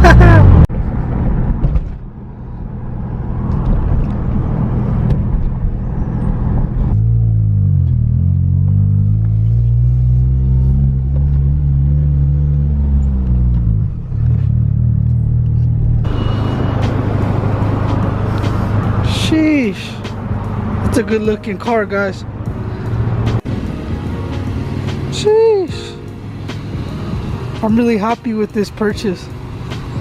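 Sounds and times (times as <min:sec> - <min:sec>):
car engine and exhaust: 0:00.0 - 0:30.0
tyre and road noise: 0:00.0 - 0:30.0.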